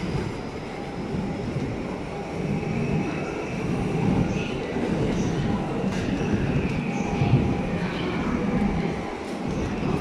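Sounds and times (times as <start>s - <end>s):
railway station noise: 0.0s - 10.0s
train rumbling: 0.0s - 10.0s.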